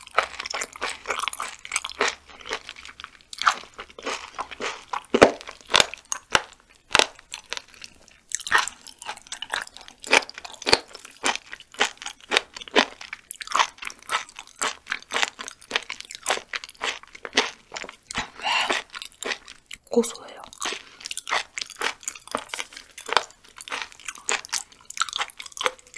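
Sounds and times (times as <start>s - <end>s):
chewing with crunches: 0.0s - 25.9s.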